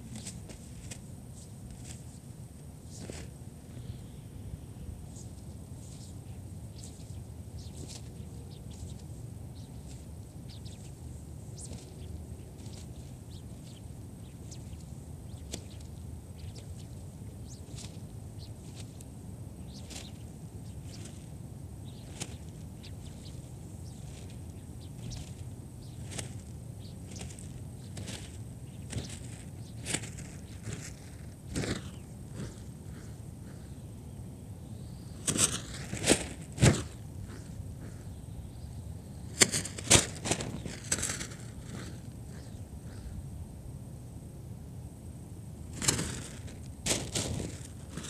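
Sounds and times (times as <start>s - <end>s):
wind buffeting microphone: 4.5s - 43.6s.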